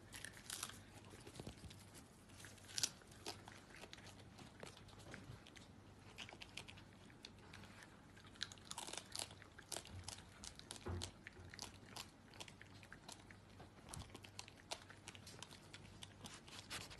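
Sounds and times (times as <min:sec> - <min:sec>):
raccoon chewing popcorn: 0:00.0 - 0:16.9.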